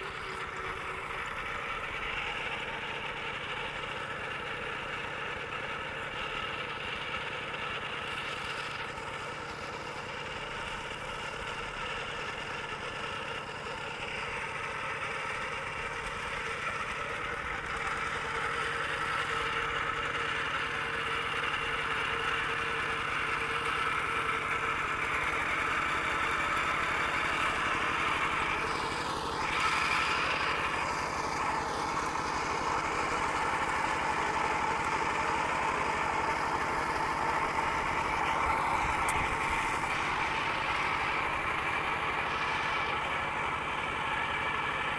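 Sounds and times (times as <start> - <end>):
single-cylinder diesel tractor running: 0.0 - 44.9.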